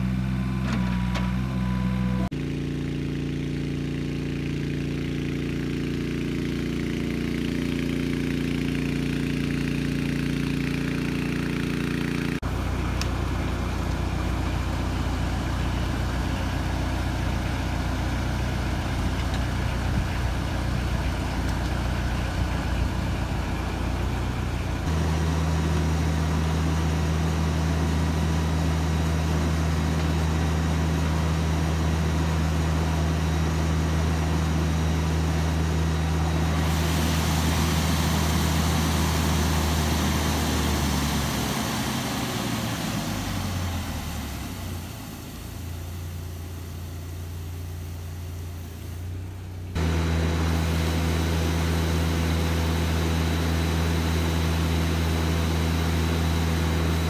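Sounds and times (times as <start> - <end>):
water pump engine droning: 0.0 - 57.0.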